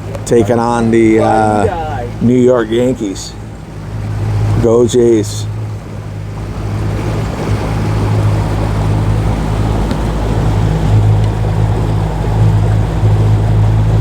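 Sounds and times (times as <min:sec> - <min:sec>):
motorboat engine humming: 0:00.0 - 0:14.0
water rushing: 0:00.0 - 0:14.0
wind: 0:00.0 - 0:14.0.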